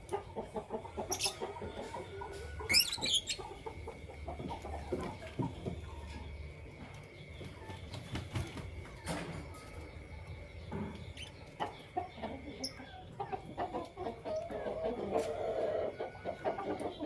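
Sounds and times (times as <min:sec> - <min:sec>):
birds clucking: 0:00.0 - 0:17.0.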